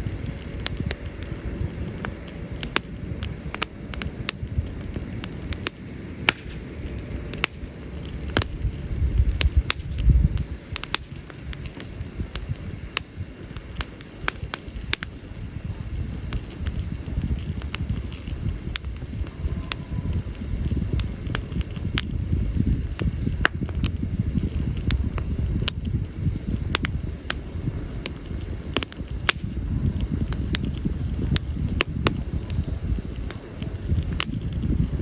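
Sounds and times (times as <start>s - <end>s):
burning logs popping: 0.0s - 35.0s
campfire crackling: 0.0s - 35.0s.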